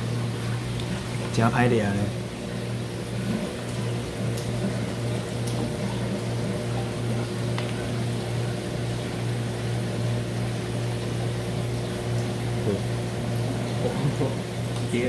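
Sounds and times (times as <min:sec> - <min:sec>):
aquarium pumps humming: 0:00.0 - 0:15.0.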